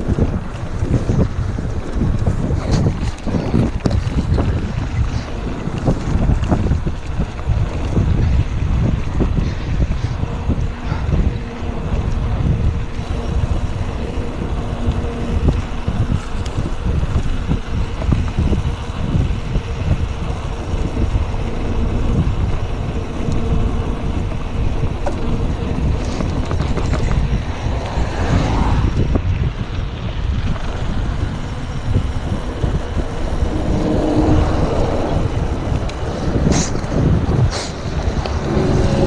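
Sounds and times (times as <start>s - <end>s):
tyres rumbling on gravel: 0.0s - 39.0s
wind buffeting microphone: 0.0s - 39.0s.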